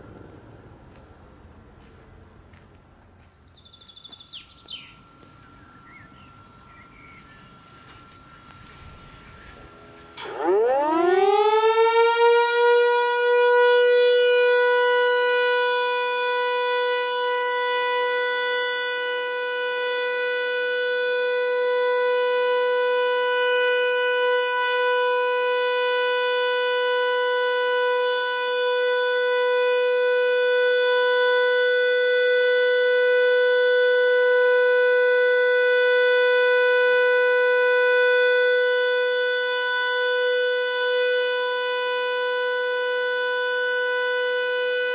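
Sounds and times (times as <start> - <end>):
siren steady tone: 3.6 - 44.9.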